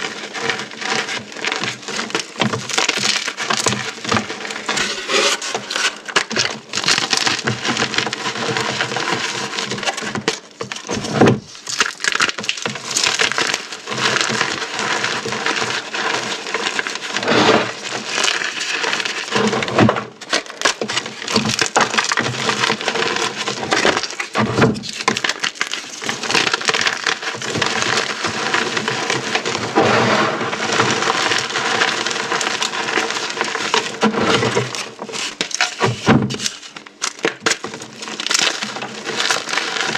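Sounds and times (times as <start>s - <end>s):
crunching of beads and chalk: 0.0s - 39.9s.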